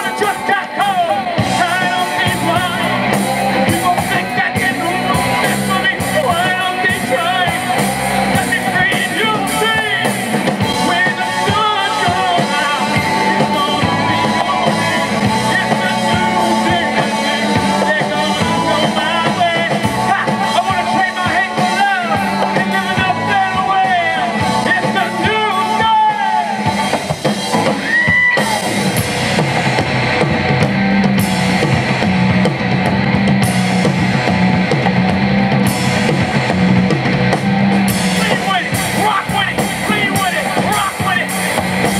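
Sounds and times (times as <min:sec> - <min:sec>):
bending guitar lead line: 0:00.0 - 0:41.9
live rock band playing: 0:00.0 - 0:41.9.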